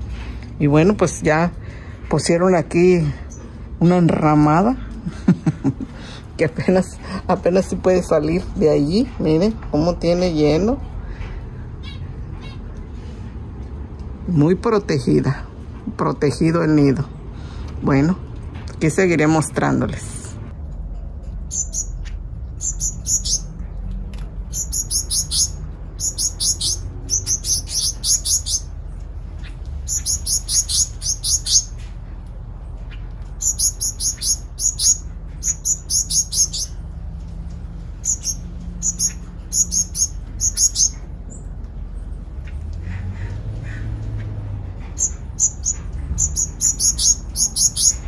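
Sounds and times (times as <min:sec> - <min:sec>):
small birds chirping: 0:00.0 - 0:19.9, 0:21.2 - 0:48.0.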